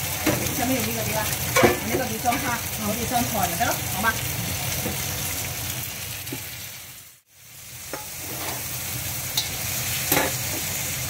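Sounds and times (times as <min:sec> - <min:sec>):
shrimp sizzling in hot oil: 0:00.0 - 0:11.0.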